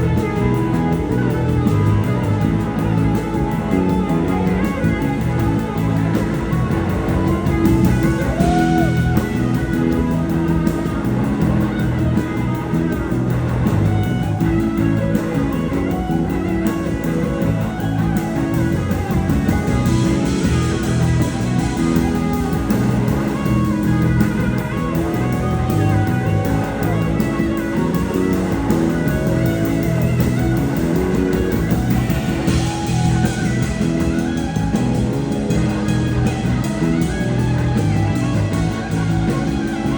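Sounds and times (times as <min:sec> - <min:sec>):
live band playing: 0:00.0 - 0:39.9
sliding lead guitar line: 0:00.0 - 0:39.9.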